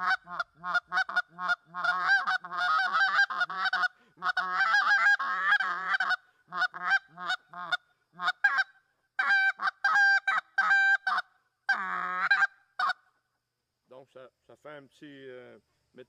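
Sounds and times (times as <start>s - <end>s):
goose call clucks and honks: 0.0s - 13.1s.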